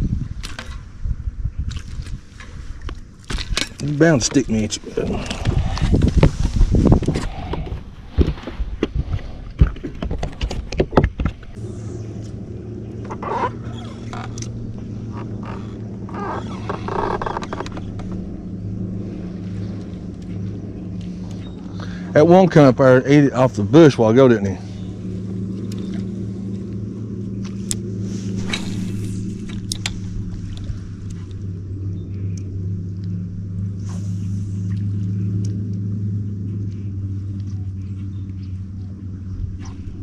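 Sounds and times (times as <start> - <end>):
boat motor humming: 2.1 - 40.0.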